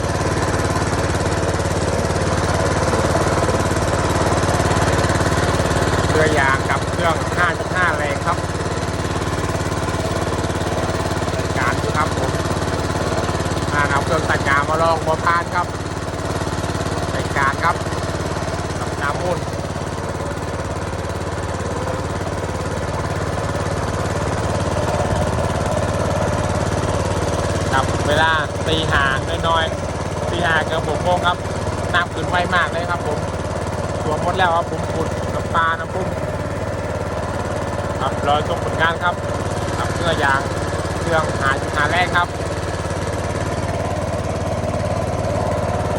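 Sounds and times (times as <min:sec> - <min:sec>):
small boat engine running: 0:00.0 - 0:45.9.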